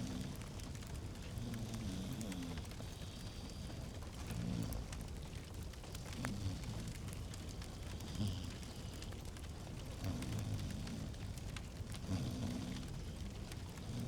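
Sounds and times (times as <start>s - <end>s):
low fire rumble: 2.6s - 14.0s.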